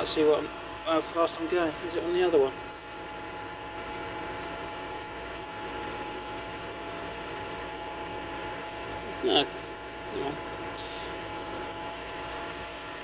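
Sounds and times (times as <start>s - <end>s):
constant whine: 0.0s - 13.0s.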